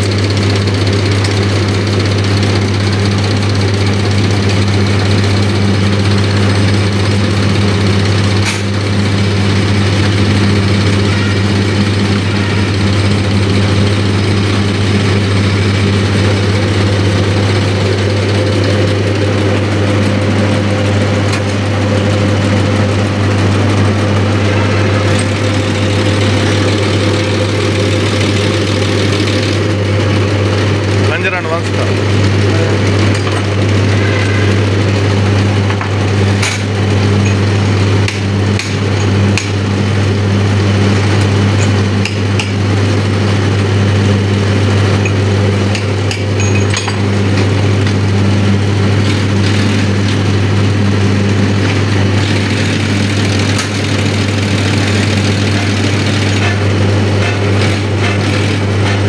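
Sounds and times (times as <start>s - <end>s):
test bench machine humming: 0.0s - 59.0s.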